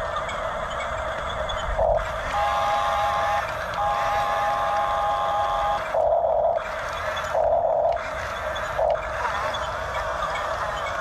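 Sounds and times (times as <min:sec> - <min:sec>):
toy bulldozer high tone: 0:00.1 - 0:11.0.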